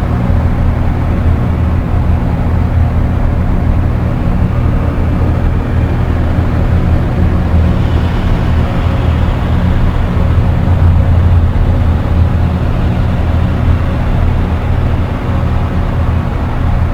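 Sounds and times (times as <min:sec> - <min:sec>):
dark ambient drone music: 0:00.0 - 0:16.9.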